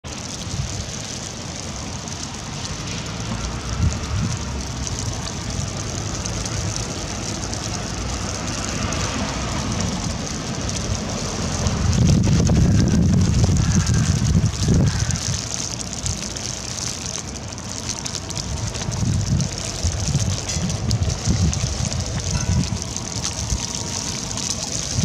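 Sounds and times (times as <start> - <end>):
wet snow falling onto water: 0.0 - 25.0
low rumble: 1.8 - 25.0.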